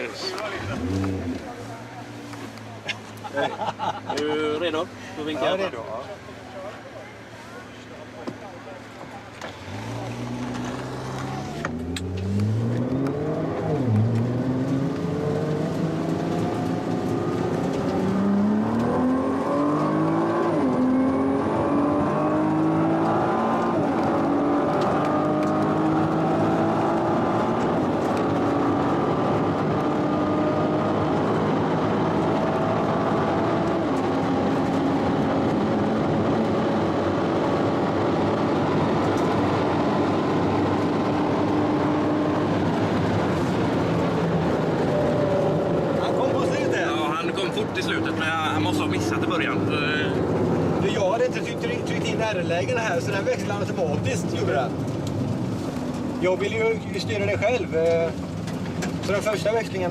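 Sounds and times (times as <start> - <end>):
car engine accelerating hard: 0.0 - 6.8, 9.0 - 59.9.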